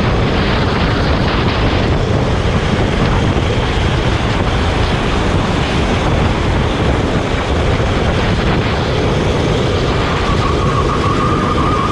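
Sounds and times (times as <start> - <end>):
go-kart engine running: 0.0 - 11.9
wind noise on microphone: 0.0 - 11.9.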